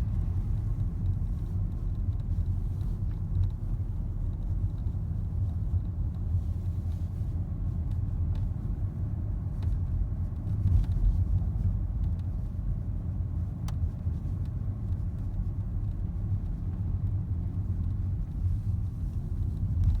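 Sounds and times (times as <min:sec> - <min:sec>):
road and engine rumble in car cabin: 0:00.0 - 0:20.0.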